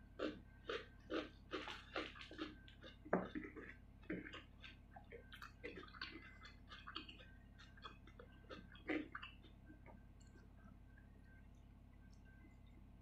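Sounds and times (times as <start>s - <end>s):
person chewing: 0.1s - 12.8s.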